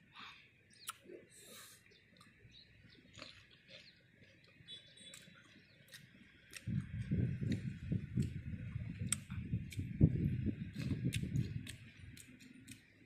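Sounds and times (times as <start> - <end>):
person chewing fruit: 0.8 - 13.0.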